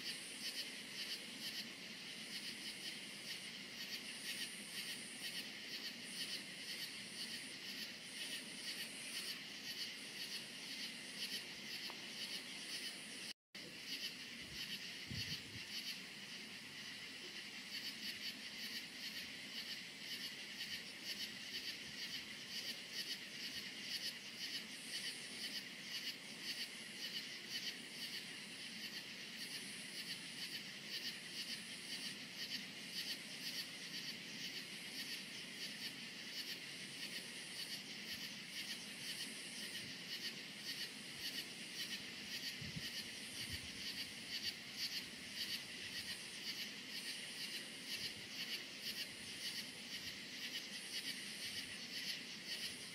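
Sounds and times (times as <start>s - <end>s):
crickets chirping: 0.0s - 52.9s
high insect buzz: 0.0s - 52.9s.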